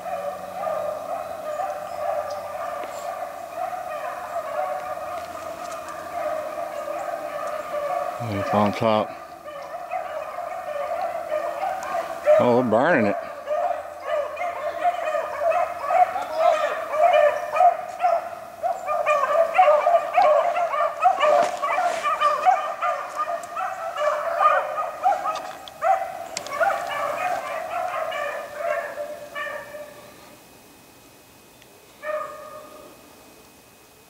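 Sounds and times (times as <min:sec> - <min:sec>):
hounds baying: 0:00.0 - 0:30.6, 0:32.0 - 0:33.0.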